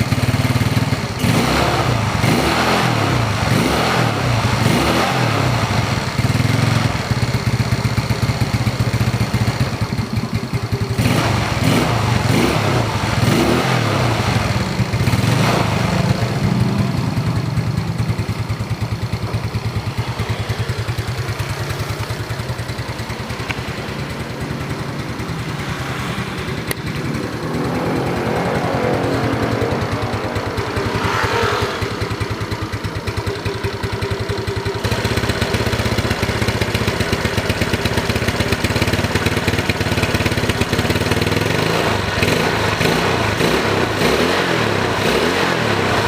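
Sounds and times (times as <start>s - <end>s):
scooter engine idling and revving: 0.0s - 46.0s.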